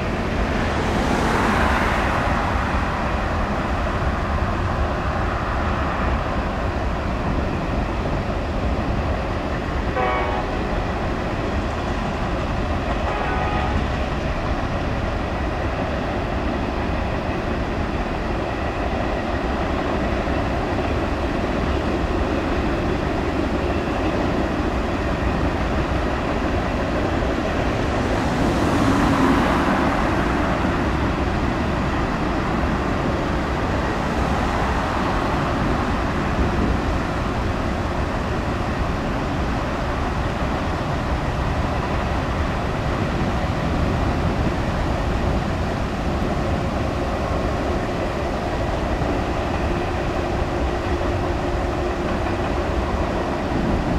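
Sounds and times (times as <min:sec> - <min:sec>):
freight train wheels rumbling on rails: 0:00.0 - 0:53.9.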